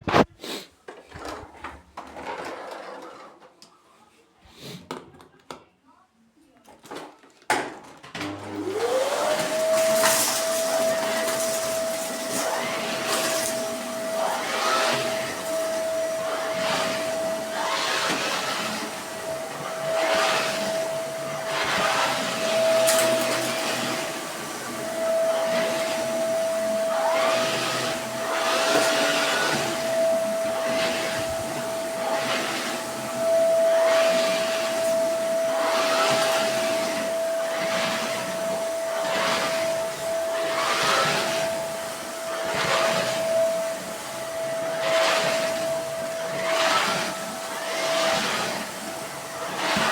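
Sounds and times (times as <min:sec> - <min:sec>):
vacuum cleaner motor whine: 0:08.1 - 0:49.9.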